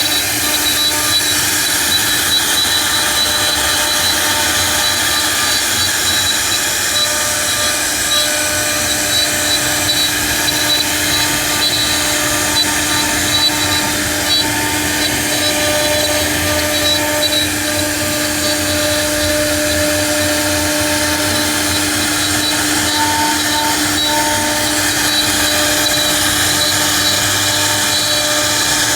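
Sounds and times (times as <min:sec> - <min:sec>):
router spindle whine: 0:00.0 - 0:28.9.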